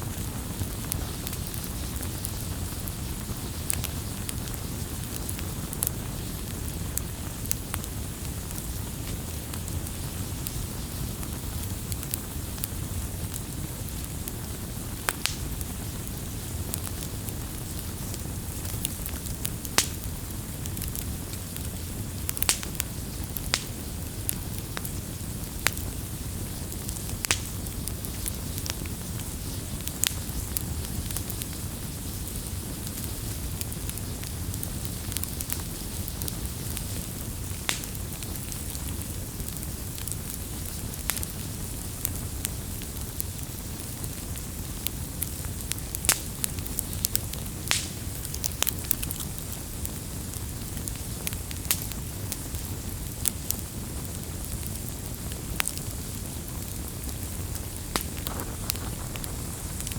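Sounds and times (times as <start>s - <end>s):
fire crackles and pops: 0.0s - 59.9s
flames rushing: 0.0s - 59.9s.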